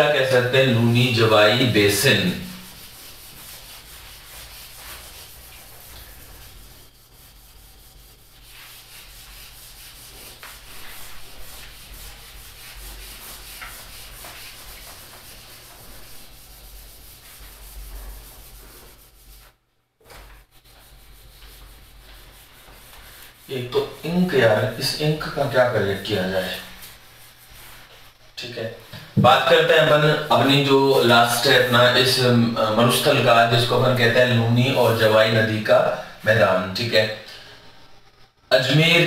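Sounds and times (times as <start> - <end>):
wiping a whiteboard: 0.0 - 38.0.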